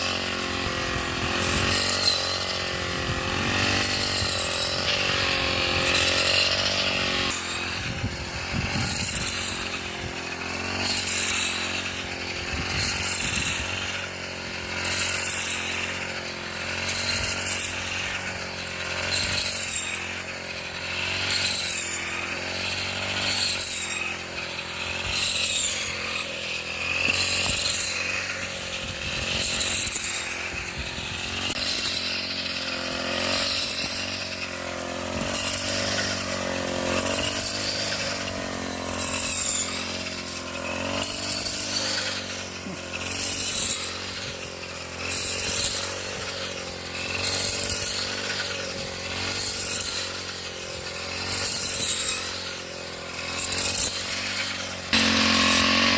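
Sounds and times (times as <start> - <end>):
threshing machine running: 0.0 - 55.9.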